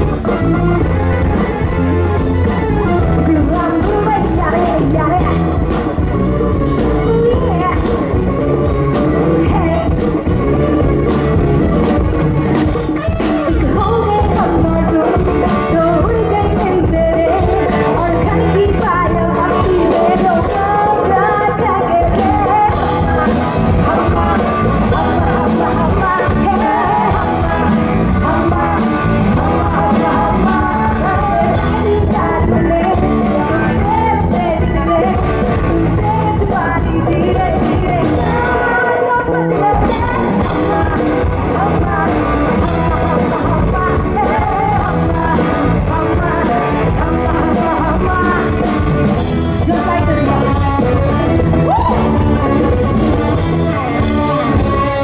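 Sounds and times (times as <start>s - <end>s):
live band playing: 0.0s - 55.0s
woman singing: 0.0s - 55.0s.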